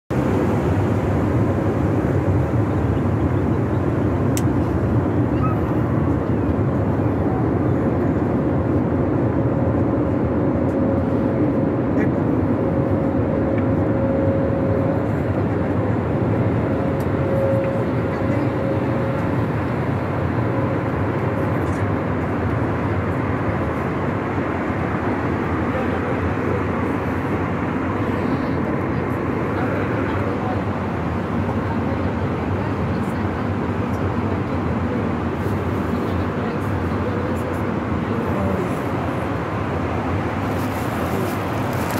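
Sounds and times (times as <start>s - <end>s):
airliner cabin engine noise: 0.1s - 41.9s.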